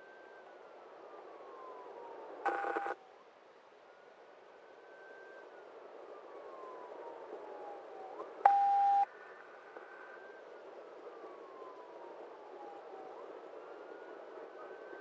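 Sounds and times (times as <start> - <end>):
faint police siren wailing: 0.0 - 15.0.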